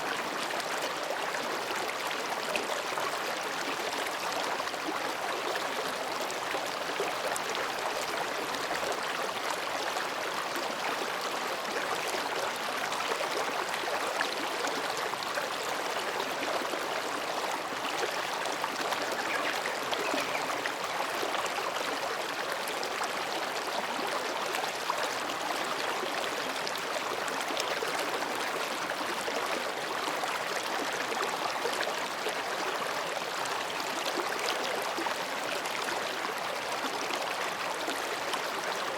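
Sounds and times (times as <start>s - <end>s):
stream babbling between rocks: 0.0s - 38.9s.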